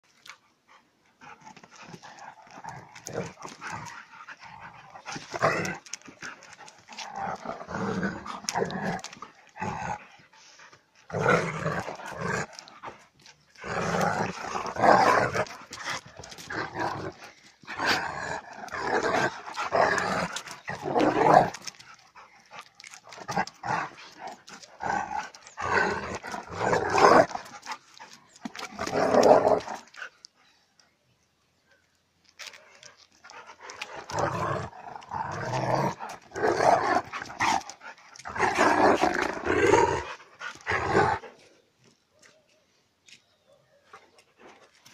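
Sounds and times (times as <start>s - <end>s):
dogs play-fighting vocal noises: 0.2s - 30.5s, 32.4s - 41.6s.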